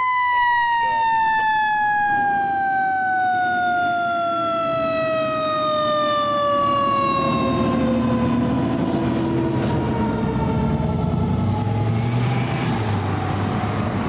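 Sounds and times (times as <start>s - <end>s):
fire truck siren winding down: 0.0s - 14.0s
truck engine rumbling: 0.7s - 14.0s.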